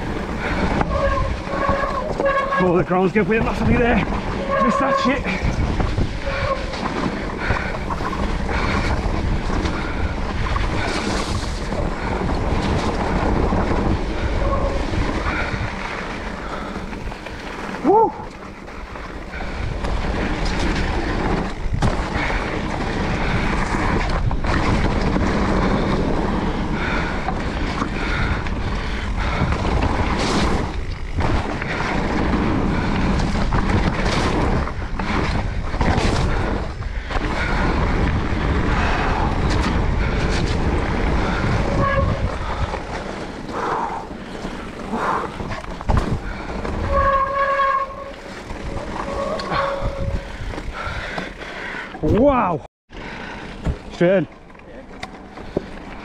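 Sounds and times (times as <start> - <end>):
bike knocks and rattles: 0.0 - 51.4, 53.5 - 56.0
wind buffeting microphone: 0.0 - 52.4
tyres rushing on dirt and gravel: 0.0 - 56.0.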